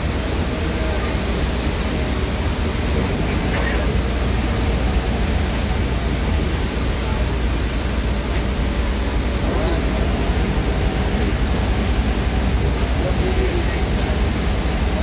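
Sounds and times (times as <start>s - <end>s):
bus engine and road rumble: 0.0s - 15.0s
rain and wet tyres hissing: 0.0s - 15.0s.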